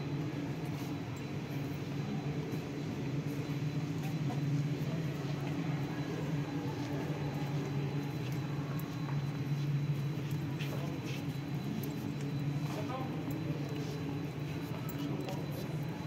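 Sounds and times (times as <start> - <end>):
low ventilation hum: 0.0 - 16.0.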